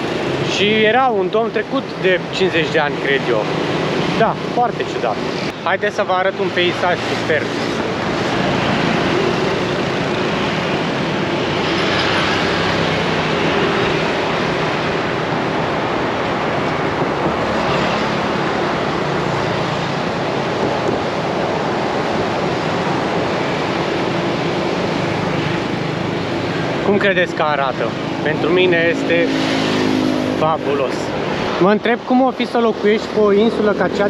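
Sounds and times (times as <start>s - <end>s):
passing vehicle engines: 0.0s - 34.0s
road traffic: 0.0s - 34.0s
wind: 0.0s - 34.0s.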